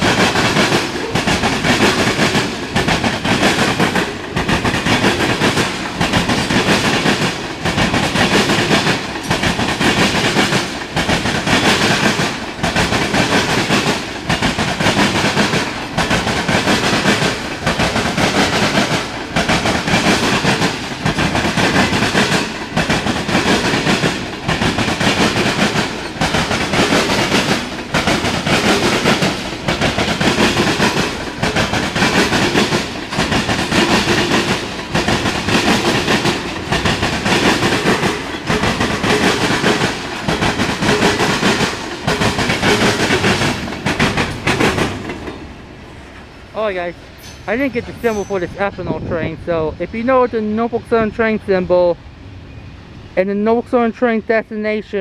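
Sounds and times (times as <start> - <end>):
wheels clacking over rail joints: 0.0 - 51.9
freight train rumbling past: 0.0 - 55.0.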